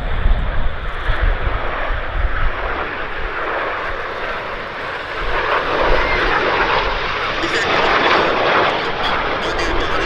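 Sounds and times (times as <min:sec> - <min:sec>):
jet aircraft passing: 0:00.0 - 0:10.0.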